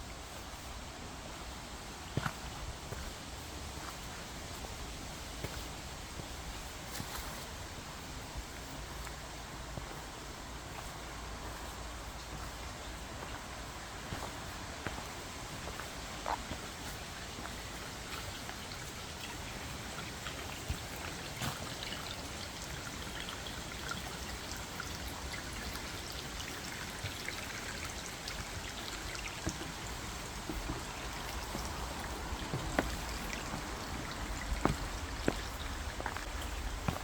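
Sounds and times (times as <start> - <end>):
light footsteps on path: 0.0 - 23.1, 25.3 - 37.0
outdoor forest hiss: 0.0 - 37.0.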